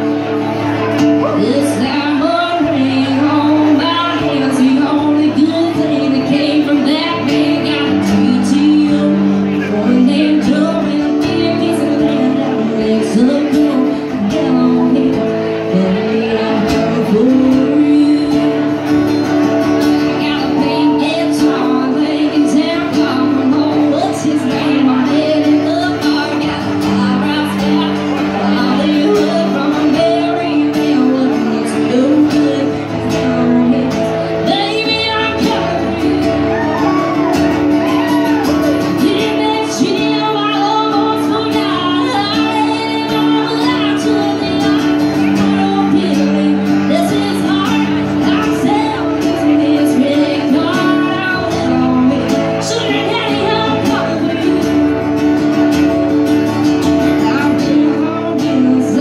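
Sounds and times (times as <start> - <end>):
acoustic guitar strumming: 0.0 - 59.0
woman singing: 1.0 - 59.0.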